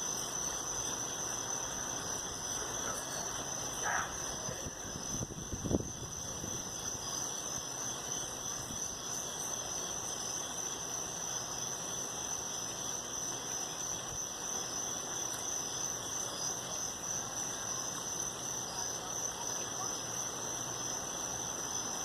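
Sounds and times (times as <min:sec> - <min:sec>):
crickets trilling: 0:00.0 - 0:22.0
low hiss: 0:00.0 - 0:22.0.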